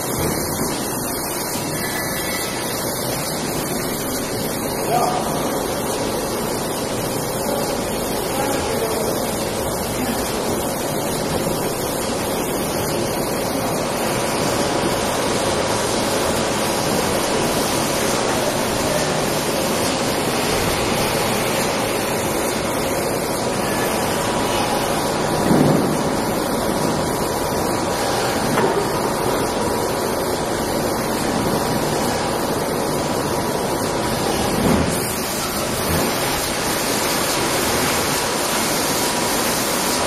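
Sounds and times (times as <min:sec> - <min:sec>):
bottling machine noise: 0:00.0 - 0:40.0.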